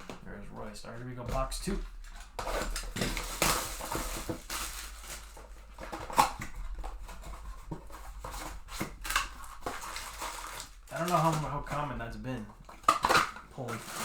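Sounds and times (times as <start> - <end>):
wrapper rustling and tearing: 1.3 - 14.0.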